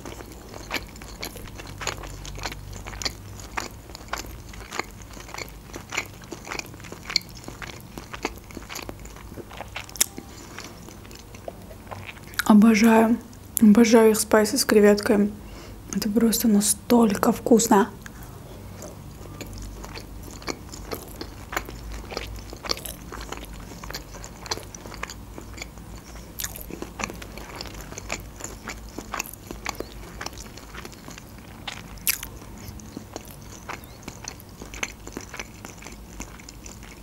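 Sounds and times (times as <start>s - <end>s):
close chewing with mouth clicks: 0.0s - 12.6s, 18.0s - 37.0s.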